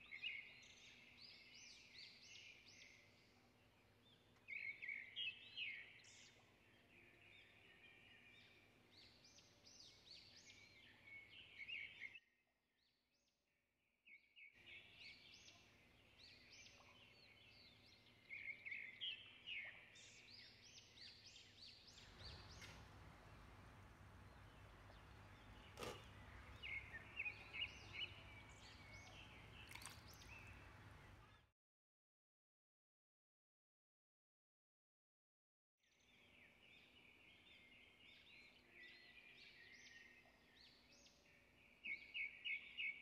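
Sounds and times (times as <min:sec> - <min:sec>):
faint birds chirping: 0:00.0 - 0:12.2, 0:14.5 - 0:31.5, 0:35.9 - 0:43.0.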